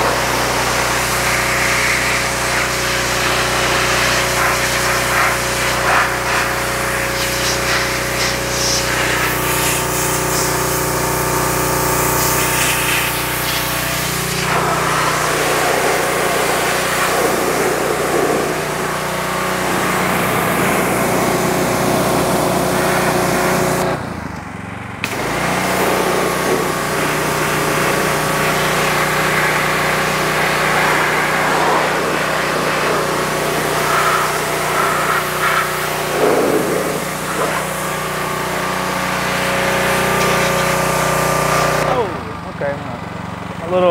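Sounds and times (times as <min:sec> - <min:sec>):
pressure washer spraying metal: 0:00.0 - 0:24.0, 0:25.0 - 0:42.2.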